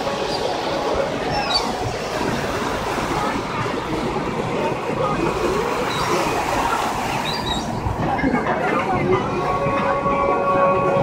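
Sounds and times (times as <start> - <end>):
boat engine rumbling: 0.0 - 11.0
churning wake: 0.0 - 11.0.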